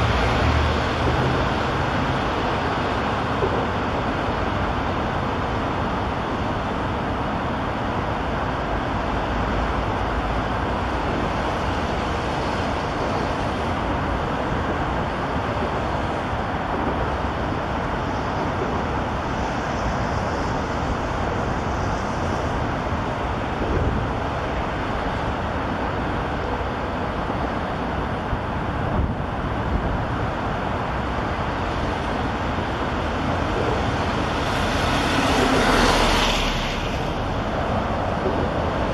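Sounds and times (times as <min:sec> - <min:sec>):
highway traffic rushing: 0:00.0 - 0:38.9.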